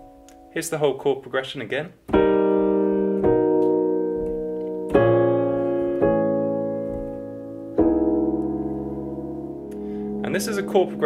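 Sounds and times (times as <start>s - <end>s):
piano jazz chords: 0.0s - 0.9s, 2.0s - 11.0s.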